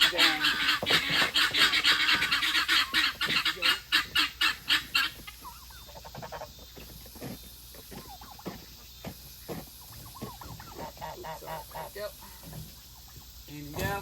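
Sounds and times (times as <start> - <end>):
fowl calling harshly: 0.0 - 7.0, 7.8 - 14.0.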